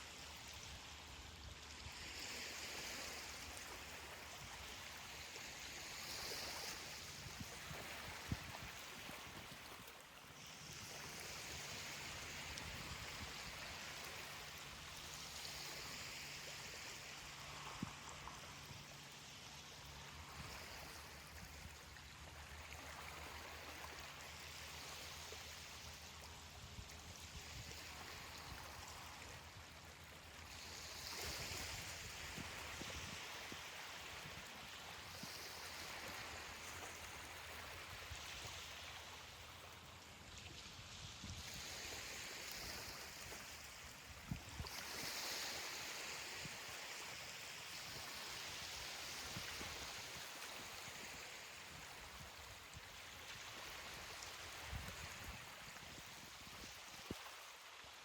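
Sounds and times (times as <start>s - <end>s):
surf hissing on beach: 0.0s - 26.0s, 30.4s - 40.6s, 41.2s - 57.7s.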